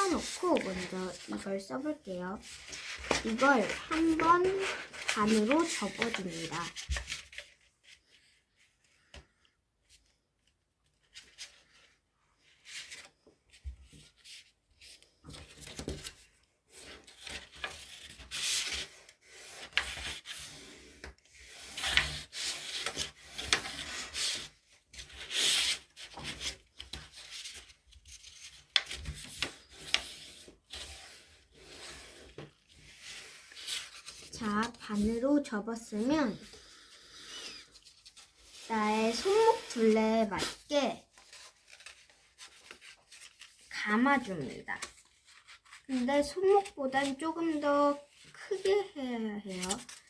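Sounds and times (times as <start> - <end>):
paper rustling and folding: 0.0 - 50.0.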